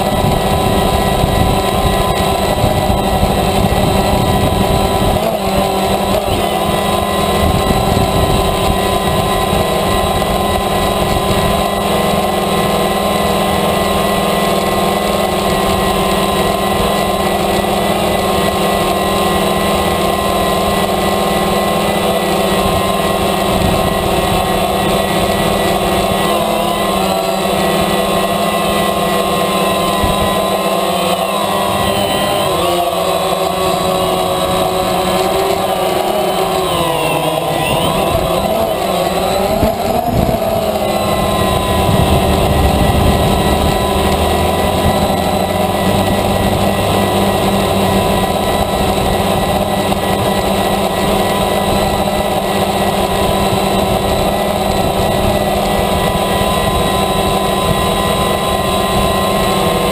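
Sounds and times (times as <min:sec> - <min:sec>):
drone propellers whining: 0:00.0 - 0:59.9.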